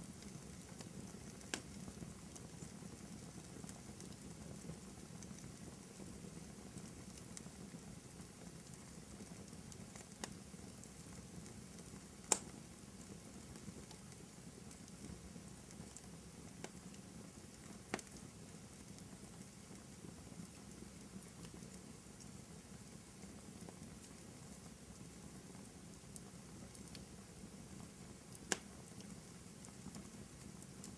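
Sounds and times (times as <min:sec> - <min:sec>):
fire crackles and pops: 0:00.0 - 0:30.9.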